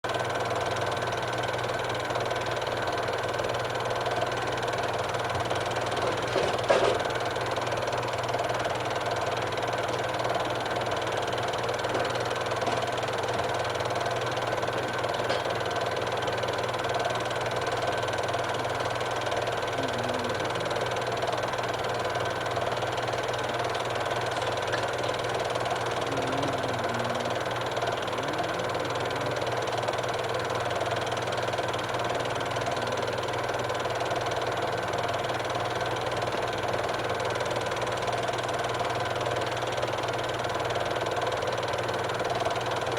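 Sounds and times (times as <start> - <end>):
machine humming and rattling: 0.1 - 42.9.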